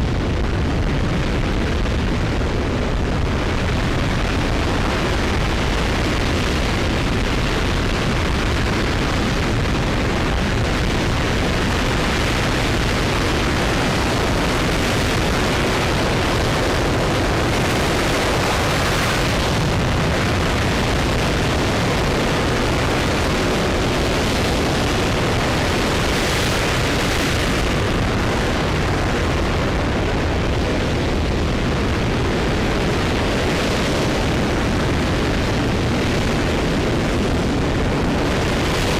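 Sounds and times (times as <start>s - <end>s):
rocket engine roaring: 0.0s - 38.9s.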